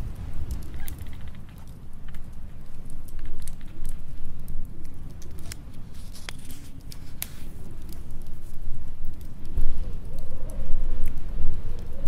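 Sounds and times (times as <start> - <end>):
storm wind: 0.0 - 6.0, 7.6 - 12.0
log fire crackling and popping: 0.0 - 12.0.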